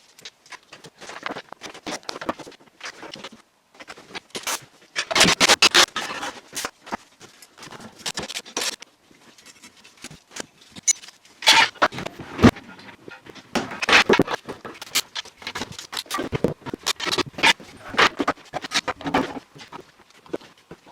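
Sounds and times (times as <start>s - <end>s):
scraping and rubbing: 0.7s - 20.9s.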